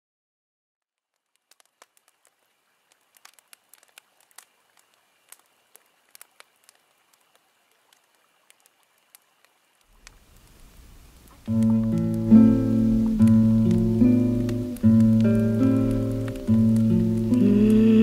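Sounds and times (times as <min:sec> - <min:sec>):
faint clicks and crackles: 0:00.8 - 0:18.0.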